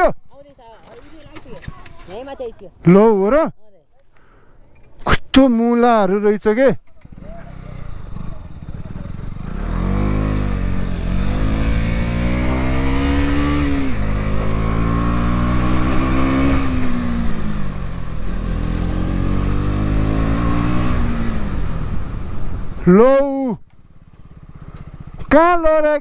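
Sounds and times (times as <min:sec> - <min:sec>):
motorcycle engine accelerating: 0:00.8 - 0:03.1, 0:06.8 - 0:26.0.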